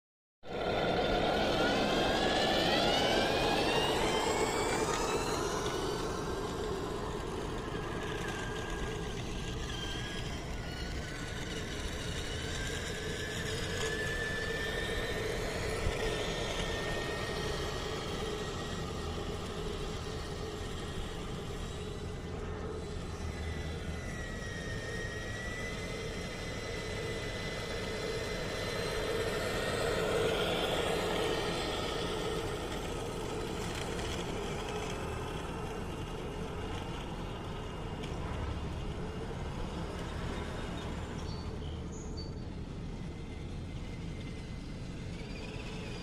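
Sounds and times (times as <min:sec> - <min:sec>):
continuous running noise: 0:00.5 - 0:46.0
electric motor and gears whining: 0:00.5 - 0:46.0.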